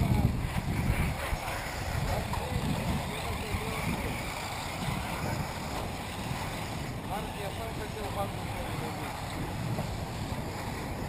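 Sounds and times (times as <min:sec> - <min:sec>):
distant voices: 0:00.0 - 0:11.0
electric rc cars whining: 0:00.0 - 0:11.0
wind buffeting microphone: 0:00.0 - 0:11.0.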